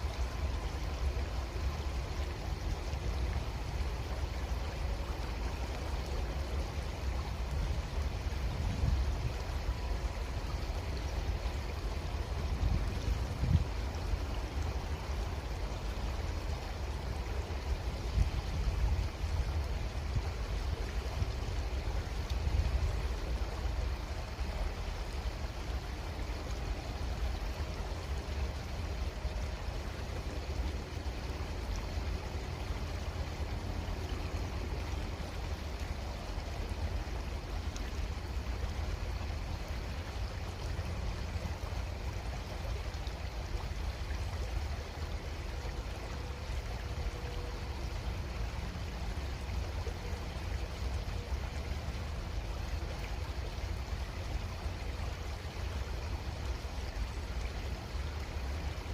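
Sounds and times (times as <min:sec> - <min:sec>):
creek water flowing: 0:00.0 - 0:58.9.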